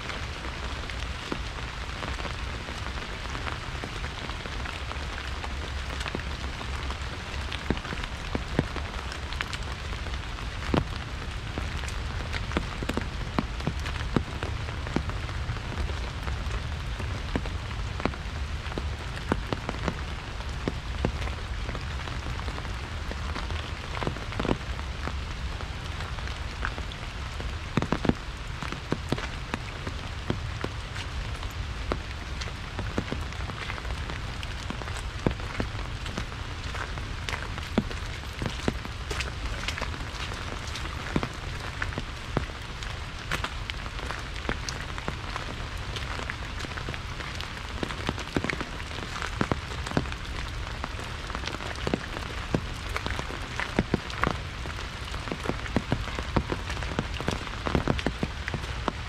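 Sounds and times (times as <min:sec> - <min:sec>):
rain on an umbrella: 0:00.0 - 0:59.0.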